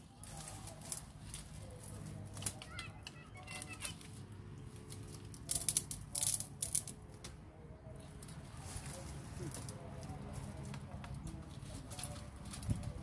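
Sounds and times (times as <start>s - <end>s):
bamboo leaves rustling and crackling: 0.0s - 13.0s.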